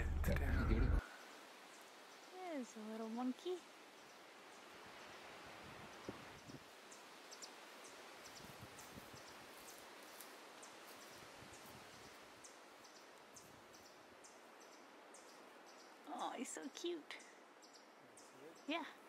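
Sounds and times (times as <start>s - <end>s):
soft even hiss: 0.0s - 19.0s.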